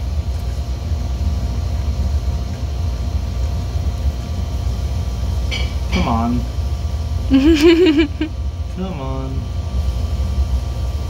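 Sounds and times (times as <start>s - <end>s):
machinery droning: 0.0s - 11.0s.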